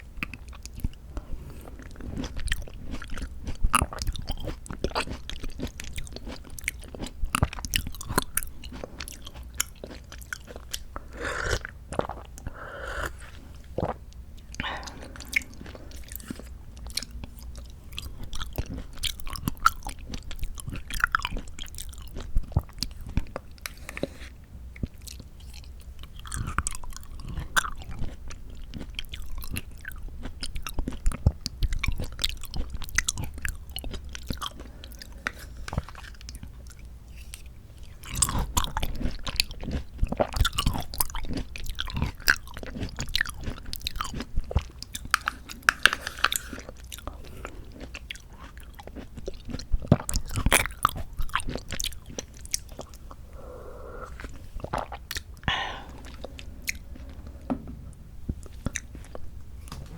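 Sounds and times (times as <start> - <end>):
chewing fruit close up: 0.0 - 59.8.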